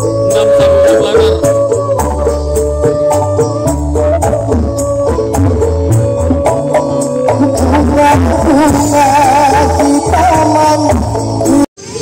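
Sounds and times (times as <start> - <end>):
wavering lead synth line: 0.0 - 10.7
loud music with heavy bass: 0.0 - 12.0.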